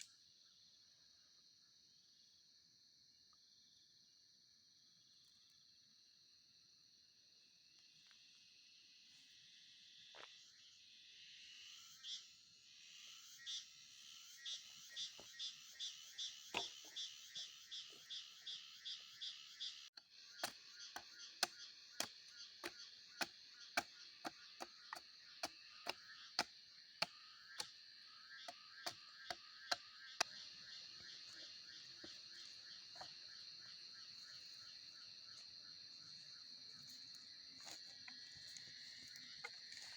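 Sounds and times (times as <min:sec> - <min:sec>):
night insects chorus: 0:00.0 - 0:39.9.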